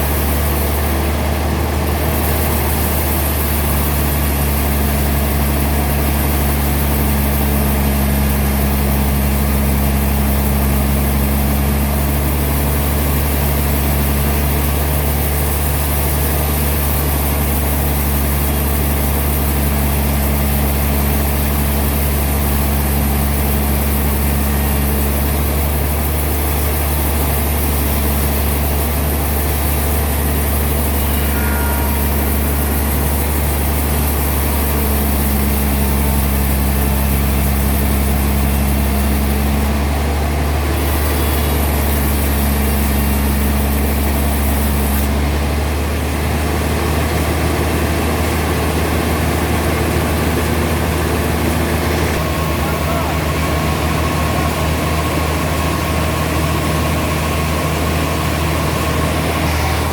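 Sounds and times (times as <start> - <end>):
sawmill machinery droning hum: 0.0 - 59.9.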